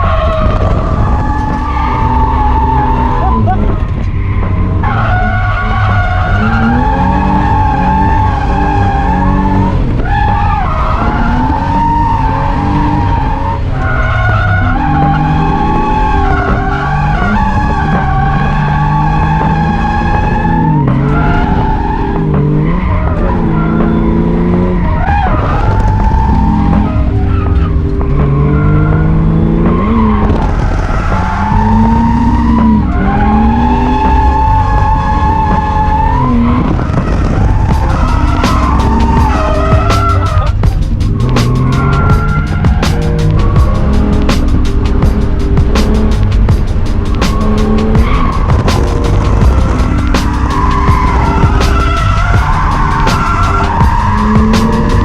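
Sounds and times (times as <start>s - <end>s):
loud wavering tyre squeal: 0.0s - 46.1s, 46.7s - 55.0s
car engine running hard: 0.0s - 55.0s.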